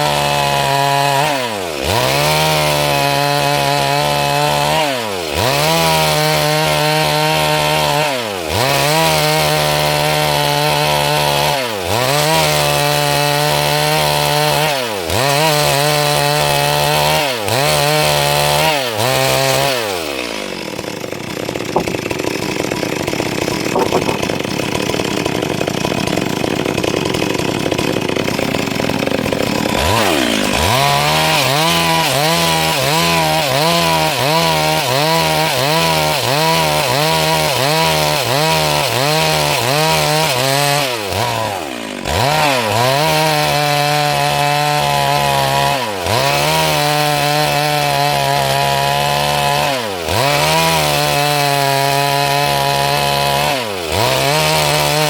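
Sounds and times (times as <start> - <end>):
chainsaw sawing wood: 0.0 - 55.0.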